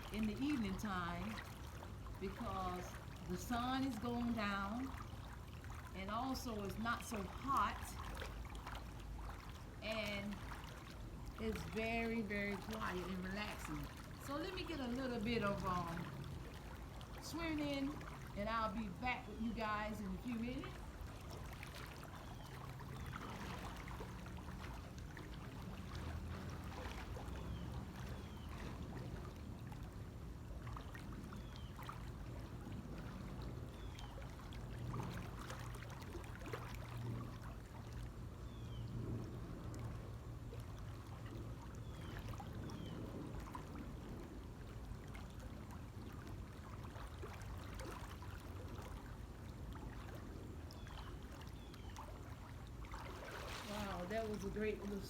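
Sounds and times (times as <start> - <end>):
water splashing from swimming: 0.0 - 55.0.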